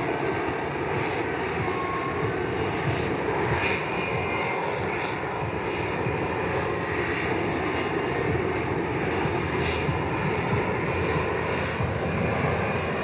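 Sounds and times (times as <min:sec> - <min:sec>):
faint high whine: 0:00.0 - 0:13.0
jet engine at high power: 0:00.0 - 0:13.0.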